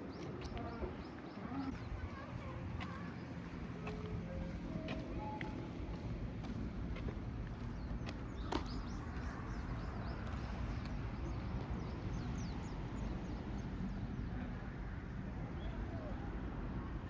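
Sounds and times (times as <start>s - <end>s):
small birds chirping: 0.0s - 13.7s
low outdoor rumble: 0.0s - 17.0s.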